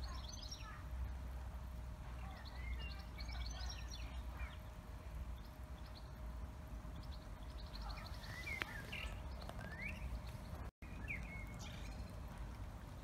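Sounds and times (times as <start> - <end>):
birds chirping and whistling: 0.0 - 0.8, 2.2 - 12.4
low outdoor rumble: 0.0 - 13.0.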